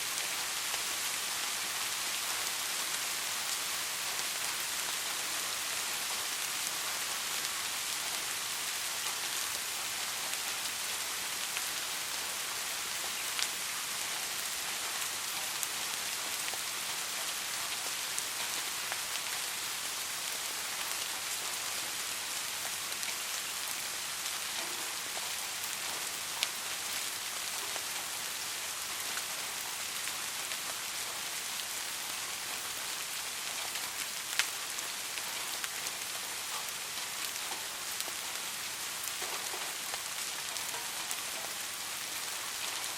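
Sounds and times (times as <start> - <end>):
soft steady rain: 0.0 - 42.9.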